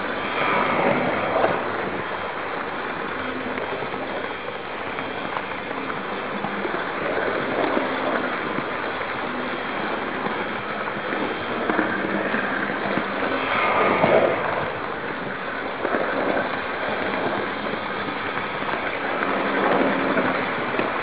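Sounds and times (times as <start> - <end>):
model train wheels and motor rattling: 0.0 - 21.0.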